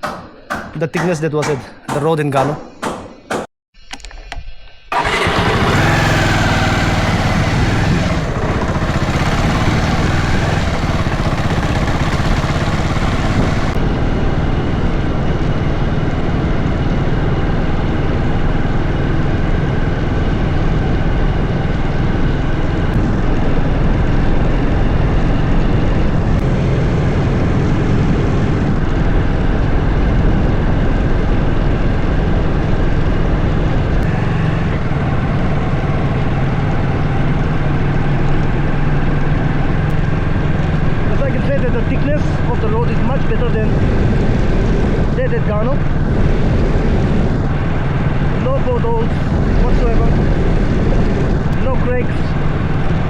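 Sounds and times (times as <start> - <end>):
vehicle engine running loudly: 4.9 - 53.0.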